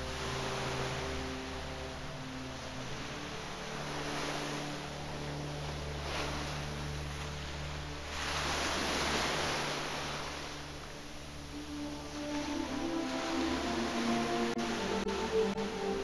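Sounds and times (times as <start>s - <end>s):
ocean surf rushing: 0.0s - 16.0s
soft music with low notes: 0.0s - 16.0s.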